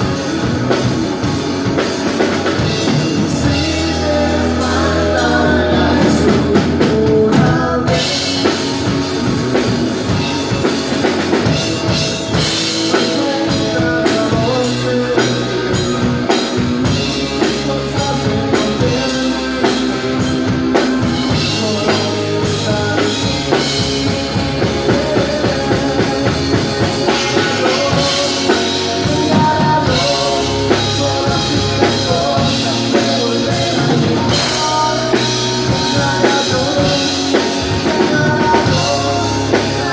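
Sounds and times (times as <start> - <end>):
drum kit beat: 0.0 - 39.9
person singing: 0.0 - 39.9
rock band playing: 0.0 - 39.9.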